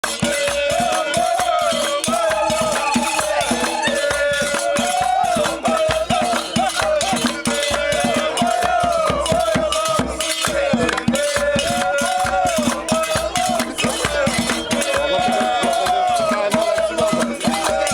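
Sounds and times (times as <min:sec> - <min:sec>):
fast rattling percussion: 0:00.0 - 0:17.9
voices chanting a melody: 0:00.0 - 0:17.9.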